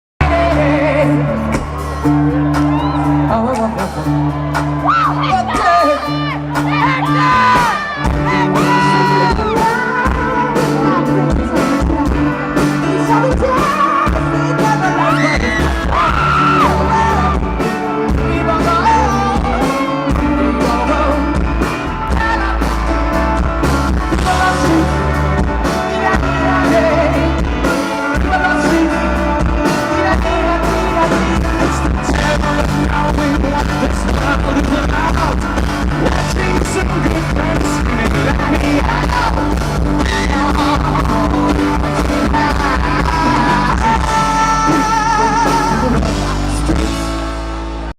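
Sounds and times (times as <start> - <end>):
male lead vocal: 0.2 - 47.4
pop-rock band playing: 0.2 - 47.9.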